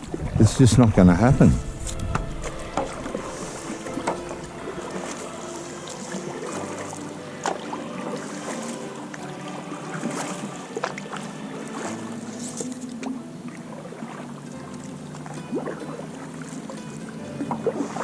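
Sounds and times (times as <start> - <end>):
water lapping against a hull: 1.6 - 18.0.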